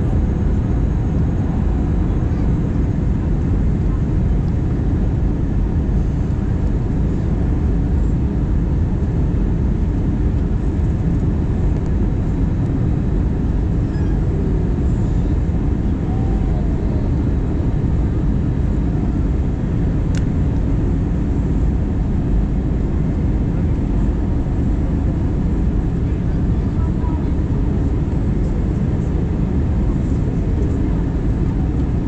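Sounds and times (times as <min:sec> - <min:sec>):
jet engine rumble in cabin: 0:00.0 - 0:32.0.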